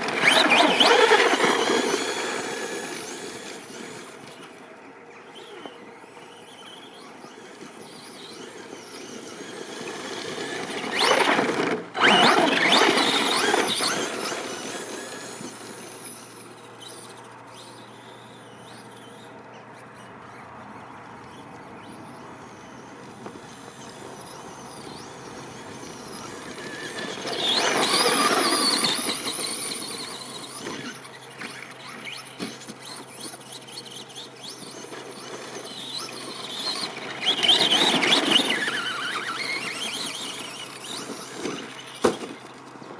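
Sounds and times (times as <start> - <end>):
electric motor whining: 0.0 - 20.4, 21.2 - 42.5.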